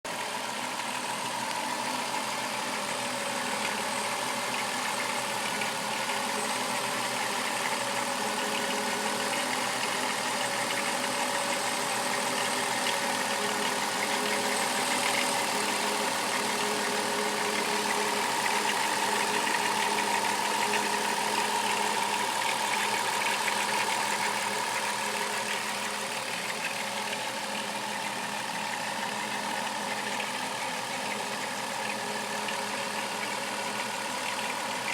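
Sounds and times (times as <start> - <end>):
car engine idling with rattle: 0.1 - 34.9.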